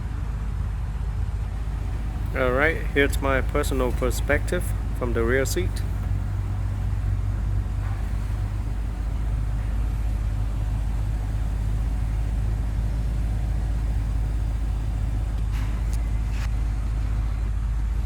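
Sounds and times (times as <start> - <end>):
car cabin rumble: 1.6 - 18.0.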